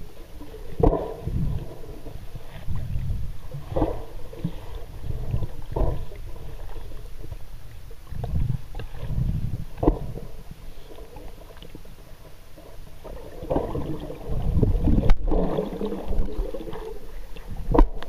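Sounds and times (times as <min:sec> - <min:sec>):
muffled underwater rumble: 0:00.0 - 0:18.0
water swishes and surges: 0:00.0 - 0:18.0.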